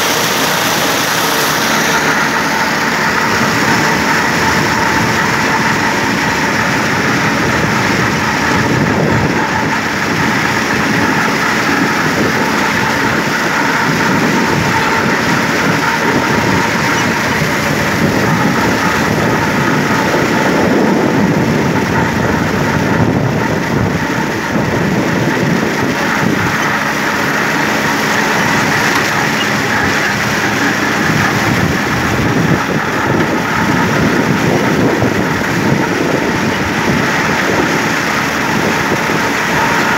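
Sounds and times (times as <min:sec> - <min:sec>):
mower hum: 0:00.0 - 0:39.9
tractor diesel engine running: 0:00.0 - 0:39.9.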